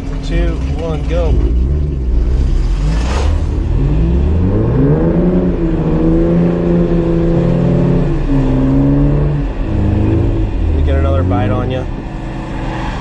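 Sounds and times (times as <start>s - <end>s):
engine revving under load: 0.5s - 13.0s.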